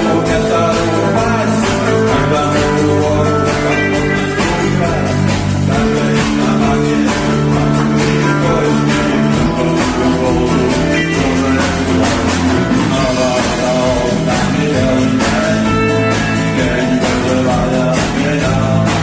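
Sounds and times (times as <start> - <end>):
bass guitar: 0.0 - 19.0
electric guitar: 0.0 - 19.0
steady drum beat: 0.0 - 19.0.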